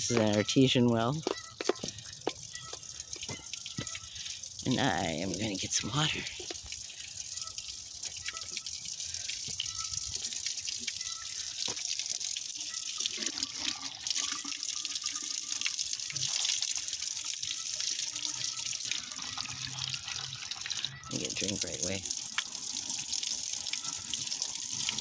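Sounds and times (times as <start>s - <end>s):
water pouring from a pipe: 0.0s - 25.0s.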